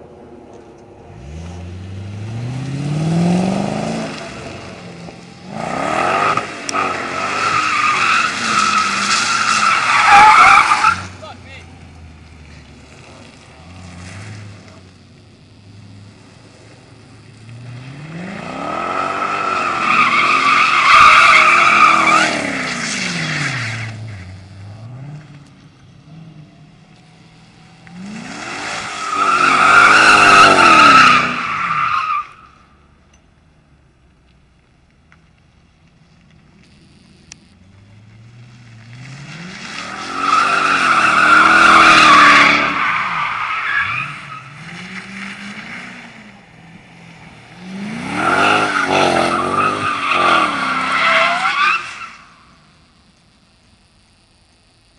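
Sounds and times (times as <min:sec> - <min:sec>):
car engine revving and idling: 0:00.0 - 0:10.0, 0:10.7 - 0:54.9
tires squealing: 0:01.2 - 0:15.1, 0:15.7 - 0:25.4, 0:27.2 - 0:32.8, 0:37.8 - 0:52.7.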